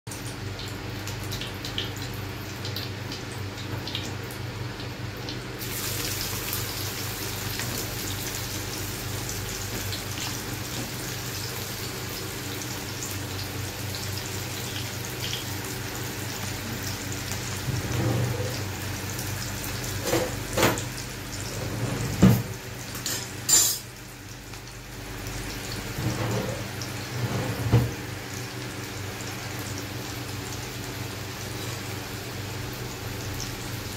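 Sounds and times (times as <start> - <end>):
onion sizzling in hot oil: 0.2 - 33.9.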